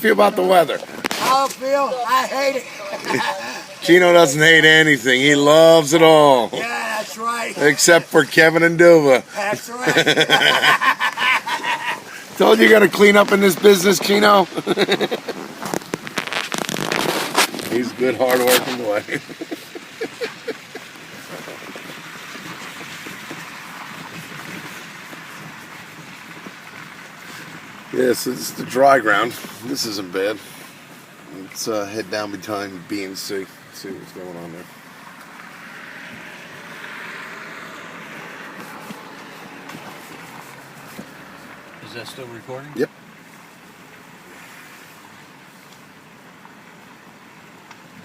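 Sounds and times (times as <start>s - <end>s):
tyres hissing through water: 0.4s - 16.1s, 17.0s - 48.0s.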